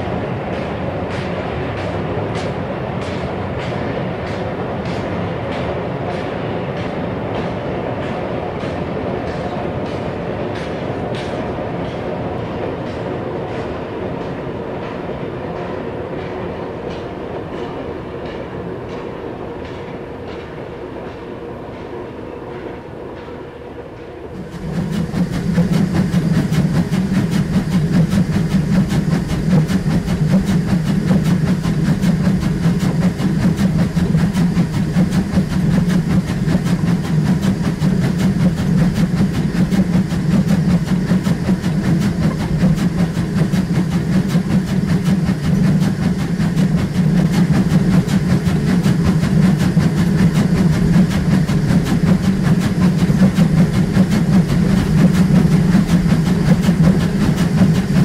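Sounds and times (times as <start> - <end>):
steam train running: 0.0 - 58.0.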